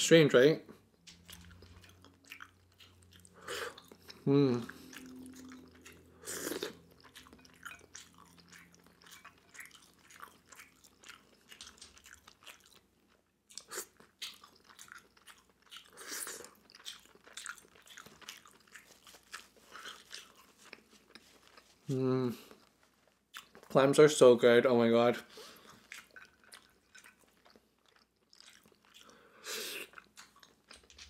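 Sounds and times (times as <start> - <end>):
chewing and mouth clicks: 0.8 - 23.8, 25.4 - 31.0.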